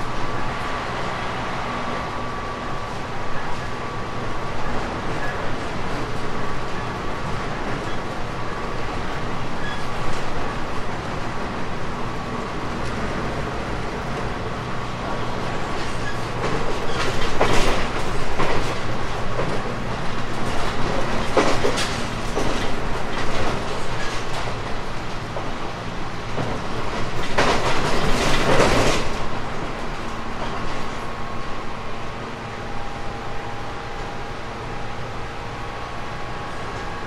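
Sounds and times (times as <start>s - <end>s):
clickety-clack over rail joints: 0.0s - 37.0s
train wheel-on-rail rumble: 0.0s - 37.0s.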